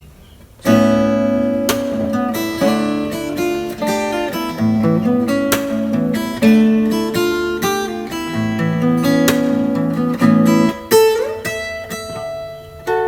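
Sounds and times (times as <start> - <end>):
acoustic guitar strumming and picking: 0.6 - 13.0.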